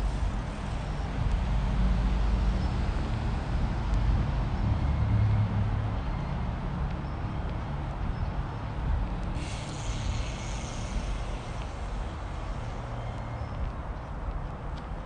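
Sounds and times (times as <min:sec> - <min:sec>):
low rumble of traffic: 0:00.0 - 0:15.0
road noise hiss: 0:00.0 - 0:15.0.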